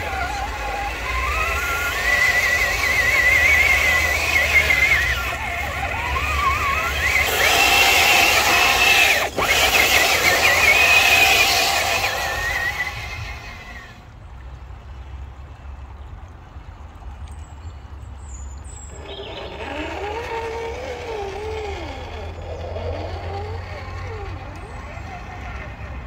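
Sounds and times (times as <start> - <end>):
electric motor whine: 0.0 - 14.0, 18.9 - 26.0.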